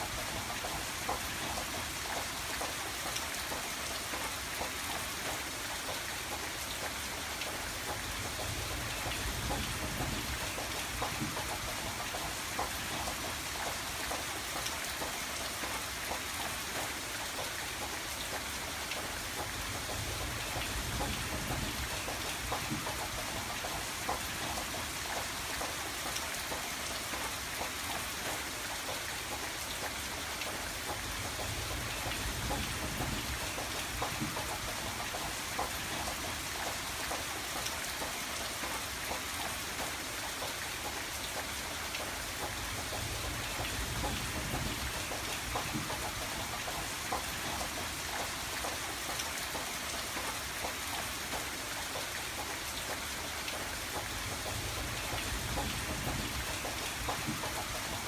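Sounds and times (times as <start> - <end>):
rain pattering on a window: 0.0 - 58.0.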